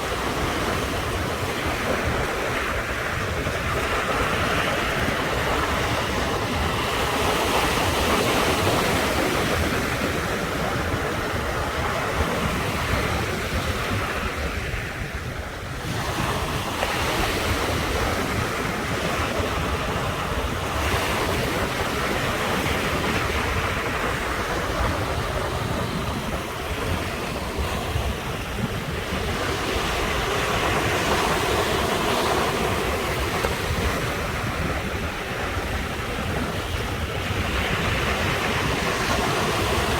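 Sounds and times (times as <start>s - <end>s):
sea waves breaking on shore: 0.0s - 39.9s
wind rumbling on microphone: 0.0s - 39.9s.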